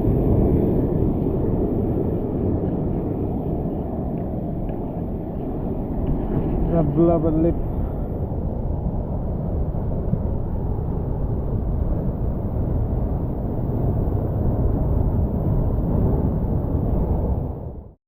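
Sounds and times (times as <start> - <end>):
rough sea roaring: 0.0 - 18.0
wind buffeting microphone: 0.0 - 18.0.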